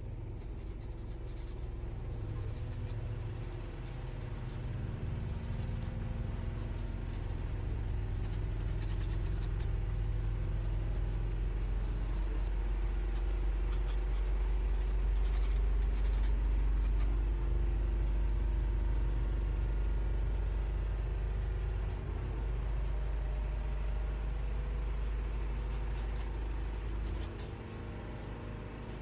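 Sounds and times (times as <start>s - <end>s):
steady low hum: 0.0s - 29.0s
pencil scratching on paper: 0.4s - 9.7s, 10.6s - 17.2s, 21.3s - 29.0s.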